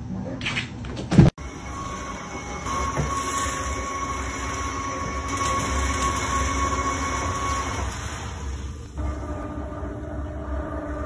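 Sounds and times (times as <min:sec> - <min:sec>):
litter box motor humming: 0:01.4 - 0:11.0
thin motor whine: 0:01.4 - 0:11.0.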